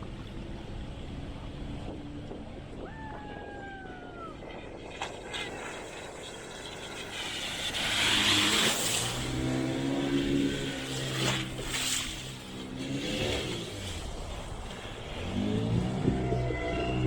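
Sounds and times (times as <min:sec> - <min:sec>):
speedboat engine: 0:00.0 - 0:17.0
water and wind rushing: 0:00.0 - 0:17.0.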